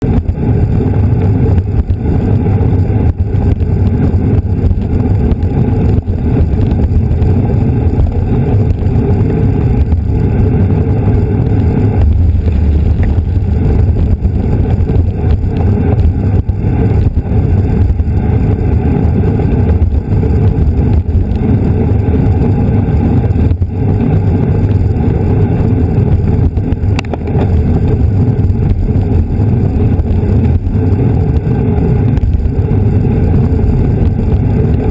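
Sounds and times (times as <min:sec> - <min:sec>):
wind rumble buffeting microphone: 0:00.0 - 0:34.9.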